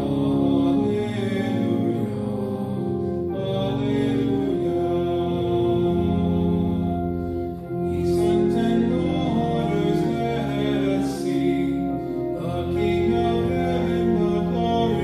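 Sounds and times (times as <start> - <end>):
slow hymn music: 0.0 - 15.0.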